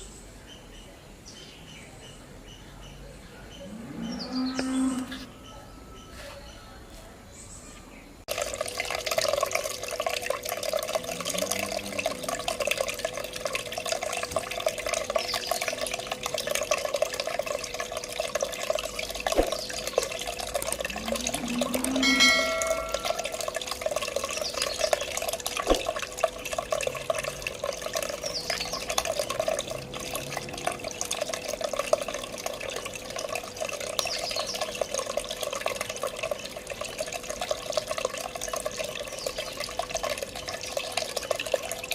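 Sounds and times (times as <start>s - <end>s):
water trickling and splashing: 8.2s - 41.9s.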